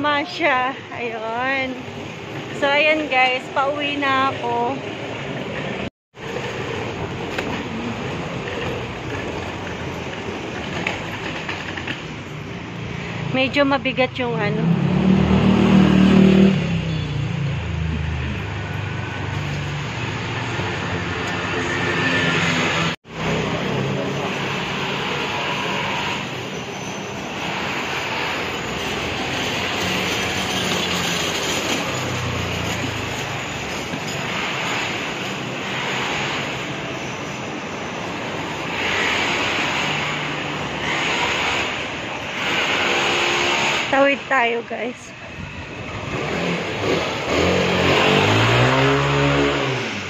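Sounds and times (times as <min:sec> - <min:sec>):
street traffic: 0:00.0 - 0:50.0.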